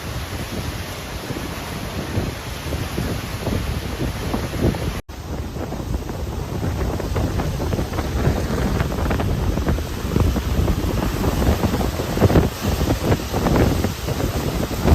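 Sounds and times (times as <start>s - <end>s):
wind buffeting the microphone: 0.0s - 14.9s.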